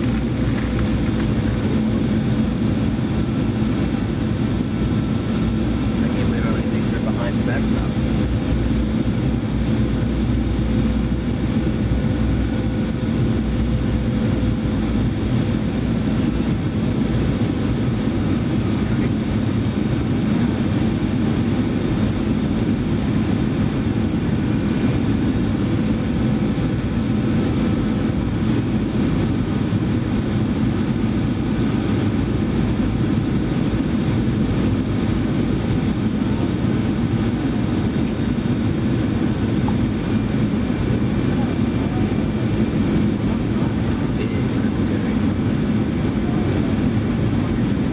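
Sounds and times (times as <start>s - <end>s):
airflow rush and engine hum: 0.0s - 47.9s.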